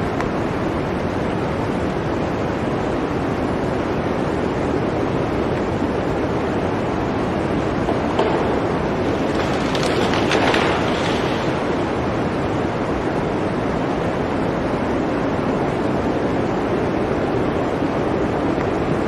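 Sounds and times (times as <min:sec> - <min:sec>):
blizzard wind blowing: 0:00.0 - 0:19.0
strong wind gust: 0:00.0 - 0:19.0.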